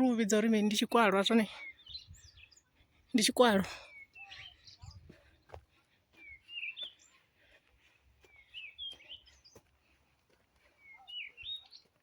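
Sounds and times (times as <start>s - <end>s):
songbird chirping and warbling: 0.0s - 9.9s, 10.5s - 12.0s.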